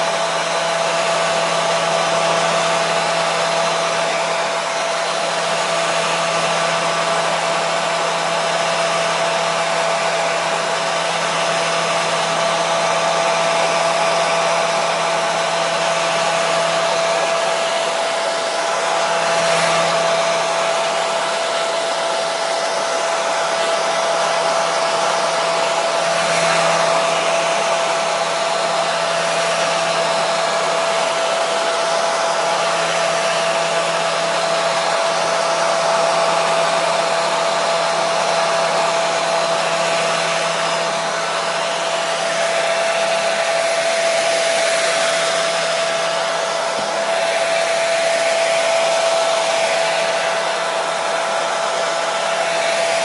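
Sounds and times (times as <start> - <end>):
hair dryer blowing: 0.0 - 53.0.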